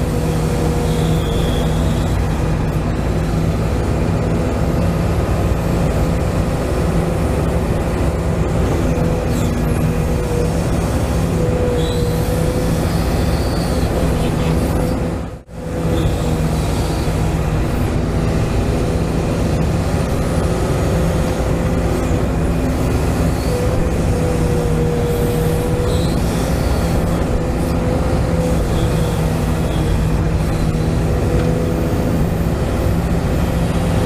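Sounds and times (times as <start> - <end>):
hydraulic pump whine: 0.0 - 34.0.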